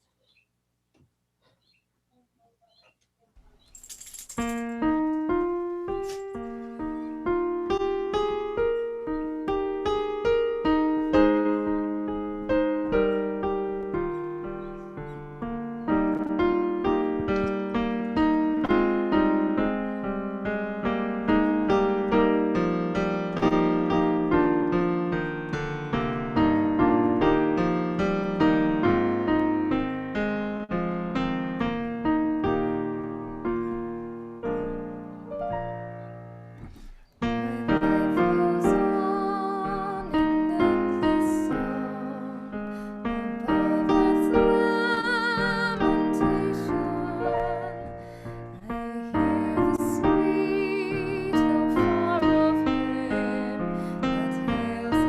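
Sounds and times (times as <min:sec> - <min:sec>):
slow solo piano piece: 0:04.4 - 0:55.0.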